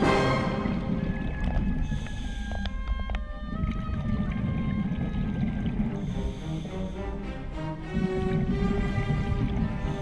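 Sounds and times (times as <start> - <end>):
background music with held notes: 0.0 - 10.0
low underwater rumble: 0.0 - 10.0.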